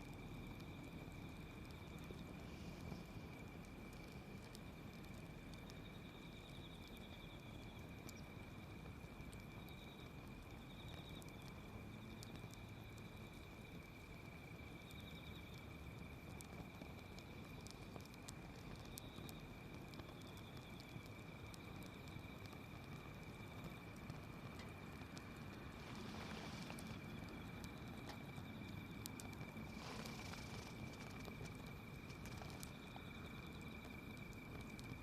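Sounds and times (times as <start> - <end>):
insects trilling: 0.0 - 35.0
wood fire crackling: 0.0 - 35.0.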